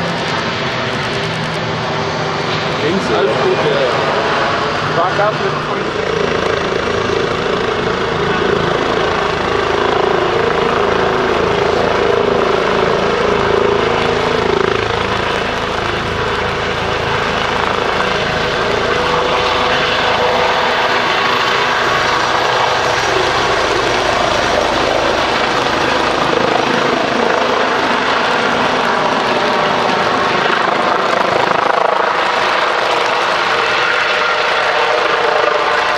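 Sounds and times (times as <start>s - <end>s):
helicopter turbine and rotor noise: 0.0s - 35.9s.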